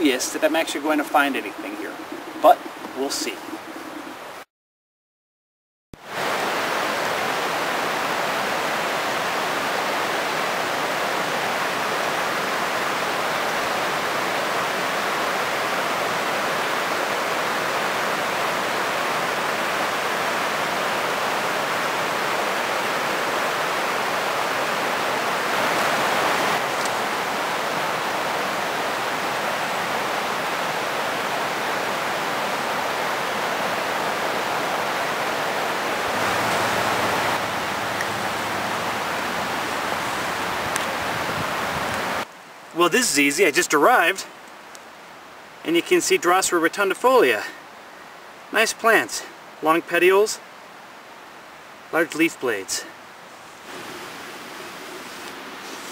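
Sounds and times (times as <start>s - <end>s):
river rushing: 0.0s - 4.4s, 6.0s - 55.9s.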